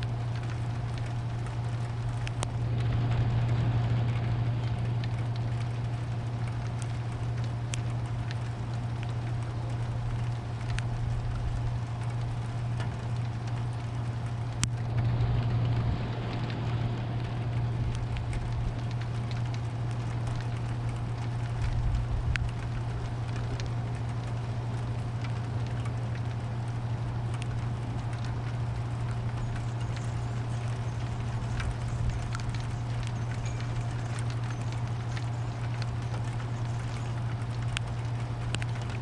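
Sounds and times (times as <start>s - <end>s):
sharp drips: 0.0s - 39.0s
steady low hum: 0.0s - 39.0s
steady rain falling: 0.0s - 39.0s.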